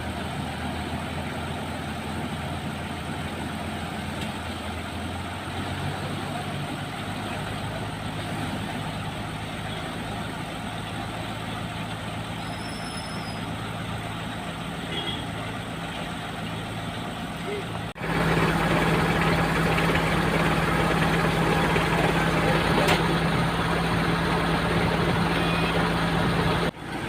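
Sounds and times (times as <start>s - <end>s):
heavy diesel engines droning: 0.0s - 27.0s.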